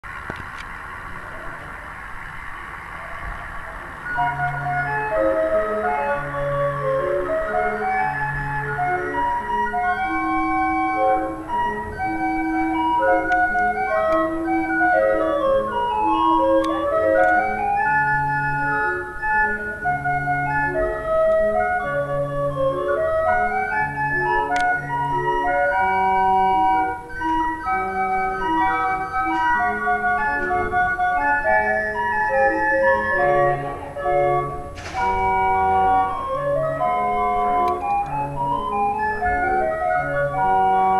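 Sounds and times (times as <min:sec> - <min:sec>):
barrel organ playing a tune: 0:00.8 - 0:40.9.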